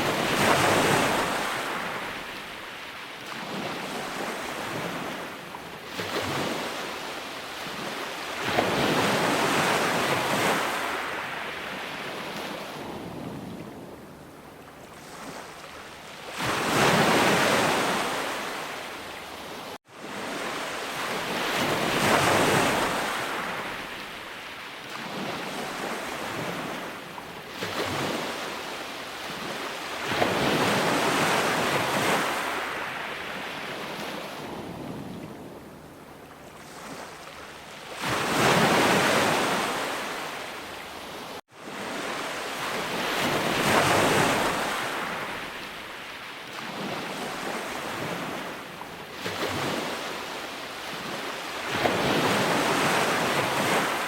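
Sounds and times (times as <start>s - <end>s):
ocean waves surging: 0.0s - 54.0s.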